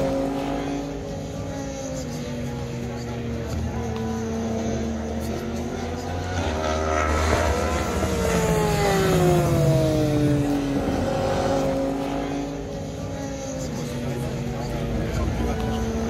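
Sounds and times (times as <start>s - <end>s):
motorcycle engine passing at speed: 0.0s - 16.0s.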